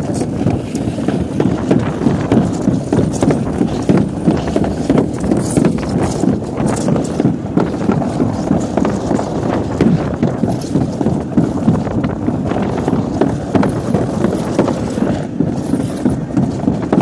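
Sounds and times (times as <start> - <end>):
sled knocks and clatters: 0.0 - 17.0
sled rumbling on track: 0.0 - 17.0.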